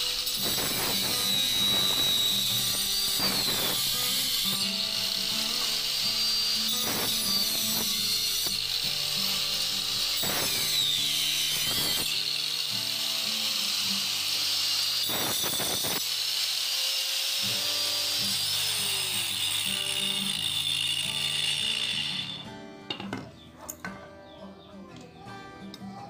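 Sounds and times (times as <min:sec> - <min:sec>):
angle grinder cutting wood: 0:00.0 - 0:22.5.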